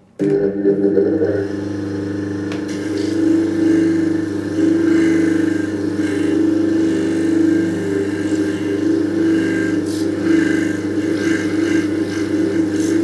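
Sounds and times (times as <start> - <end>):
polishing machine motor humming: 0.2 - 13.0.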